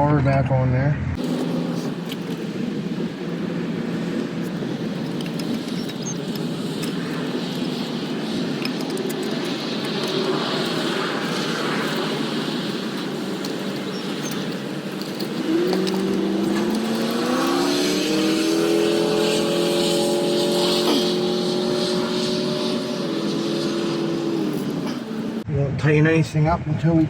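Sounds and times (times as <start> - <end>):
engine running: 1.0 - 25.5.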